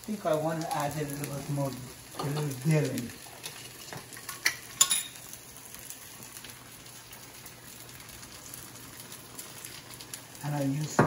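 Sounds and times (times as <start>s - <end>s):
stew simmering hiss: 0.0s - 11.0s.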